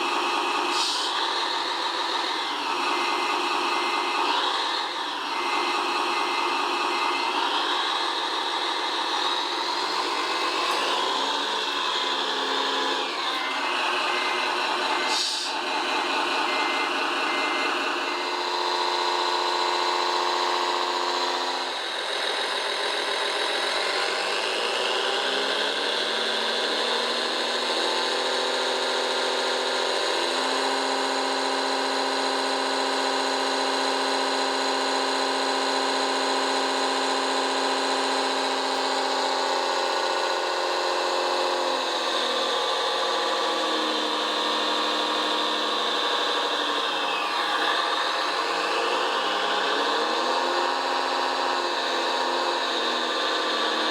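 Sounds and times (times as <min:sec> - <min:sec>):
model vehicle engine revving: 0:00.0 - 0:53.9.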